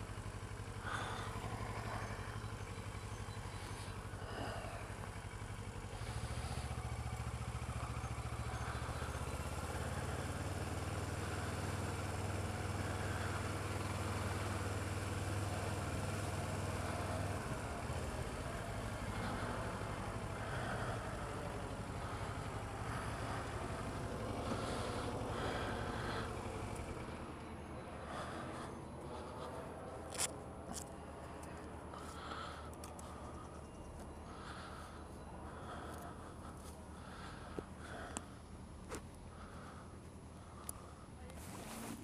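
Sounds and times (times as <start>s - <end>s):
motorcycle engine running: 0.0s - 42.0s
road and wind noise: 0.0s - 42.0s.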